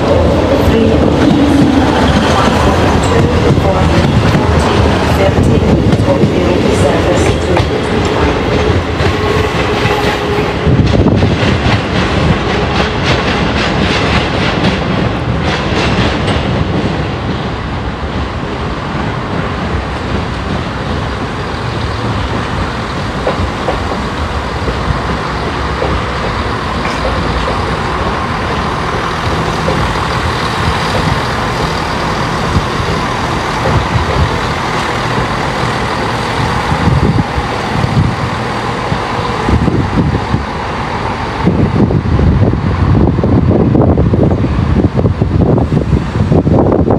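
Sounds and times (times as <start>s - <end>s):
passenger train rumbling: 0.0s - 46.9s
train wheels clattering on track: 0.0s - 46.9s.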